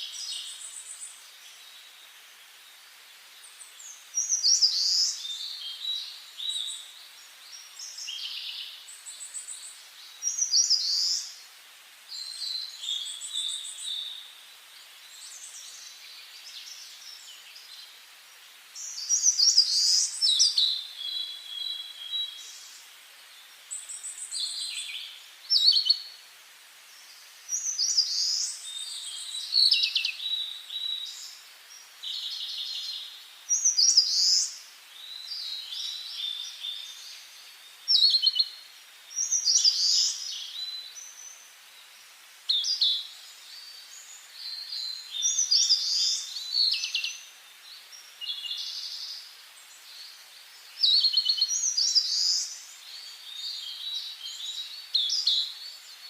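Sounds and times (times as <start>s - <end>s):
faint steady hiss: 0.0s - 56.0s
songbird singing: 0.0s - 56.0s.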